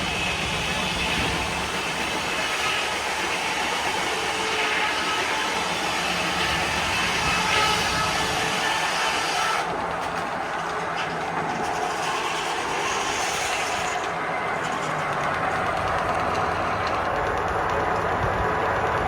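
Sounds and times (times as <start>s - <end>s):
machinery clattering and hissing: 0.0s - 19.0s.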